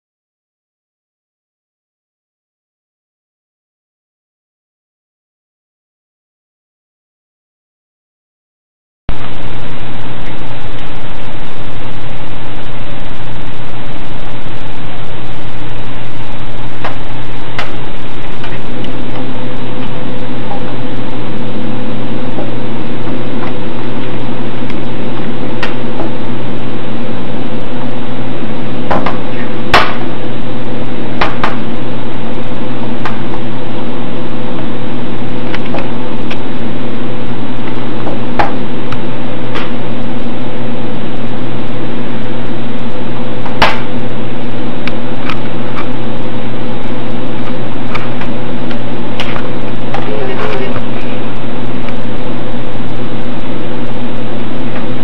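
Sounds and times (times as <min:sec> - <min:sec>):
hard disk drive humming: 0:09.1 - 0:55.0
hard drive clicks and ticks: 0:09.1 - 0:55.0.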